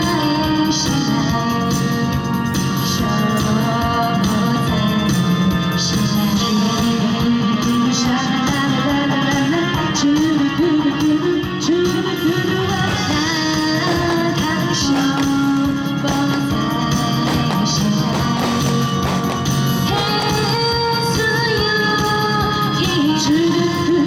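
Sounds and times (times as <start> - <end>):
guitar melody over band: 0.0 - 23.9.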